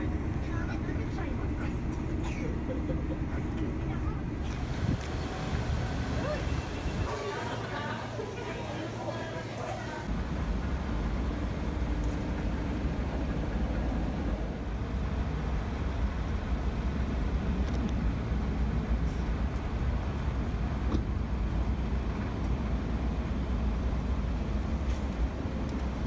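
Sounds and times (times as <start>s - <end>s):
road vehicle rumble: 0.0s - 26.0s.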